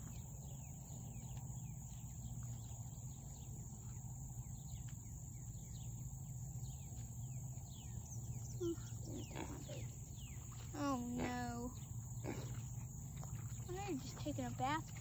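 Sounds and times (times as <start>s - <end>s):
birds chirping: 0.0s - 15.0s
insects buzzing: 0.0s - 15.0s
low steady hum: 0.0s - 15.0s.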